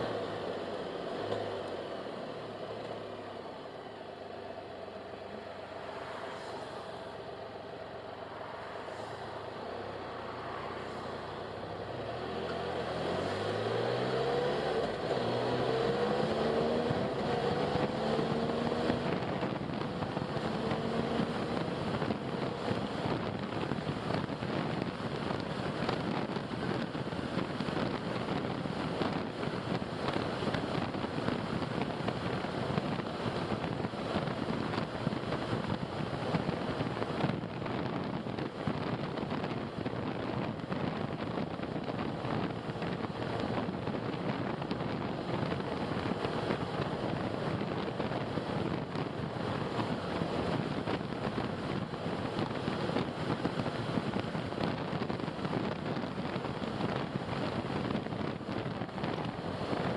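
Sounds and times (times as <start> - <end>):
road and wind noise: 0.0 - 59.9
car engine accelerating: 8.4 - 59.9.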